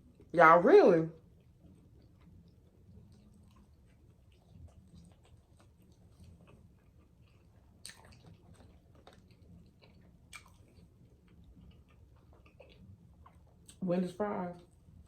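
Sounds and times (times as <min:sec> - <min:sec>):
person chewing food: 0:01.2 - 0:13.8.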